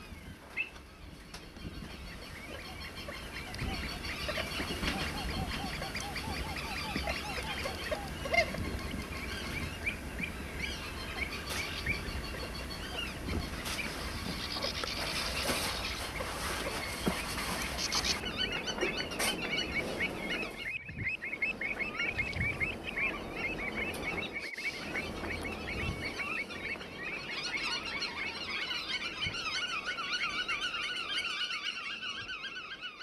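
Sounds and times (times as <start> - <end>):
birds chattering calls: 0.0 - 33.0.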